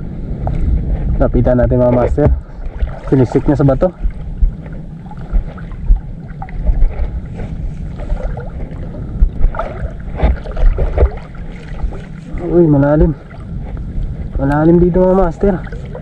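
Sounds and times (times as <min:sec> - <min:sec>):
low thumps: 0:00.0 - 0:16.0
steady rumble: 0:00.0 - 0:16.0
wind on microphone: 0:00.0 - 0:16.0
water sloshing: 0:01.8 - 0:16.0.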